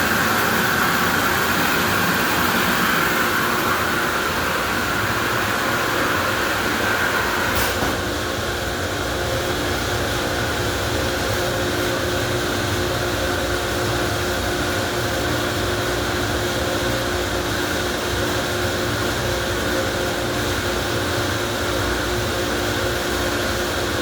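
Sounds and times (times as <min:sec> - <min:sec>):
car wash machinery running: 0:00.0 - 0:24.0.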